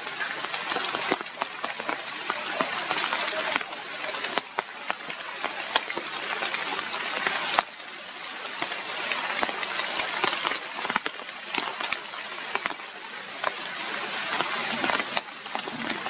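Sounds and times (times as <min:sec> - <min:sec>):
rain falling on leaves: 0:00.0 - 0:16.0.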